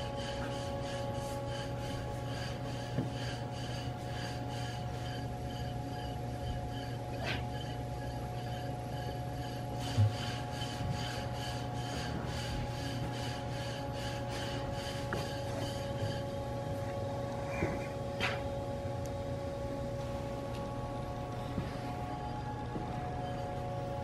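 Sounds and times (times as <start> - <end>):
rhythmic rasping strokes: 0.0 - 24.0
workshop hum: 0.0 - 24.0.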